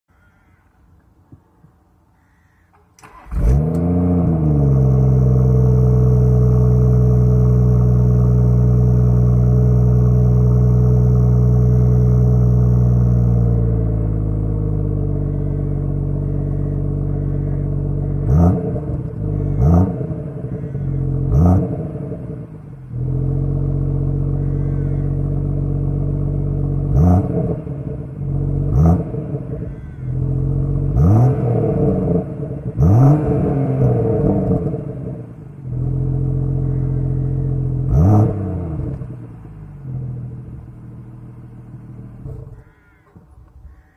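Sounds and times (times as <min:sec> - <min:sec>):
car engine idling: 0:01.4 - 0:43.9
engine throttle blips: 0:03.0 - 0:43.9.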